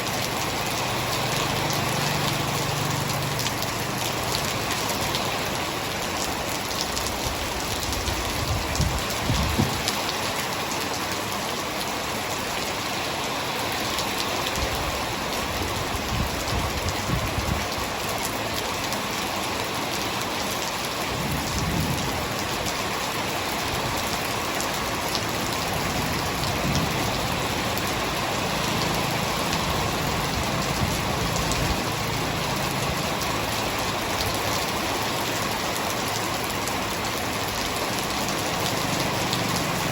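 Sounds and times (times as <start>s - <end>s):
hard rain falling: 0.0s - 39.9s.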